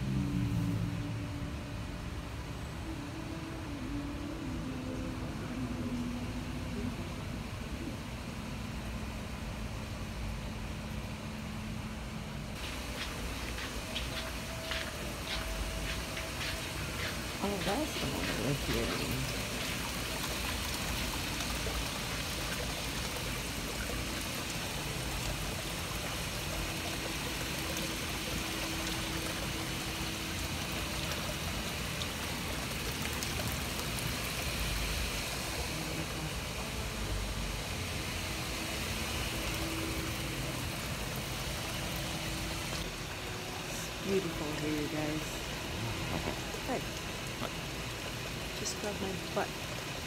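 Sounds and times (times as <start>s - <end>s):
fountain water splashing: 0.0s - 50.0s.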